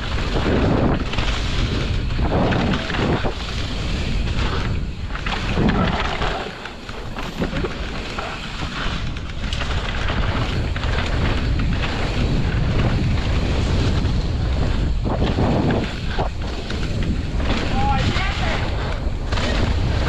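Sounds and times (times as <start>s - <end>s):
bicycle tyre noise: 0.0s - 20.0s
bike chain and frame clattering: 0.0s - 20.0s
wind rushing over microphone: 0.0s - 20.0s.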